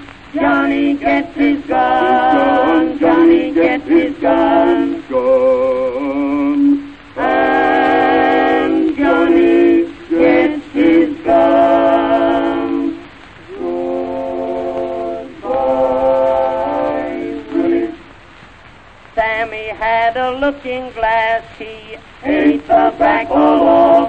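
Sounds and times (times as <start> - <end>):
voices singing in harmony: 0.0 - 18.2, 19.2 - 24.0.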